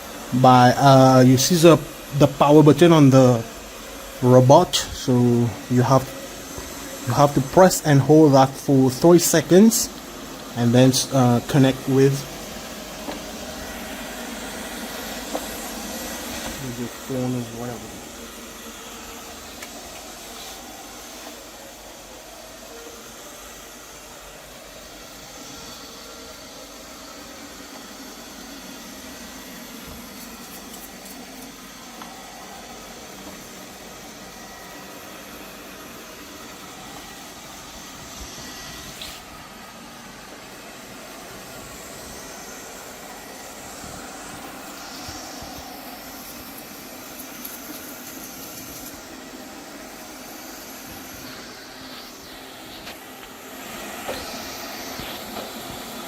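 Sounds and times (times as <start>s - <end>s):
robot vacuum cleaner whirring: 0.0s - 56.0s.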